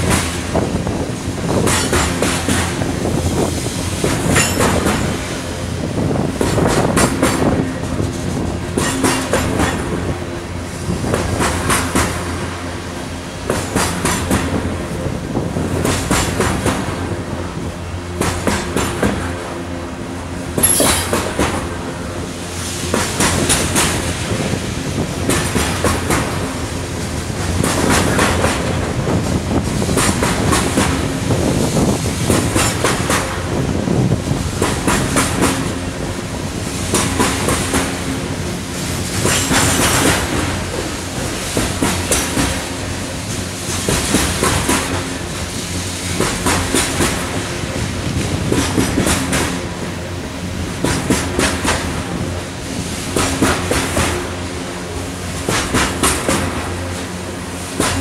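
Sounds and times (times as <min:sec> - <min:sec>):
train rolling rumble: 0:00.0 - 0:58.0
train wheels clacking over rail joints: 0:00.0 - 0:58.0.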